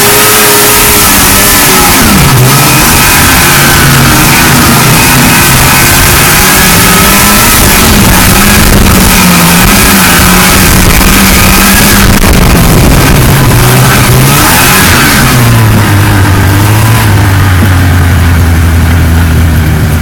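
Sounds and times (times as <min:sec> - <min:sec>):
snowmobile engine running: 0:00.0 - 0:20.0
steady rushing noise: 0:00.0 - 0:20.0.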